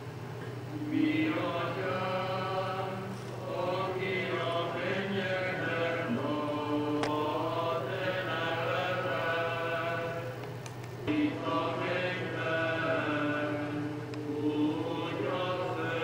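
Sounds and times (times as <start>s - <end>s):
low hum: 0.0s - 16.0s
choir singing a chant: 0.7s - 10.4s, 11.0s - 16.0s.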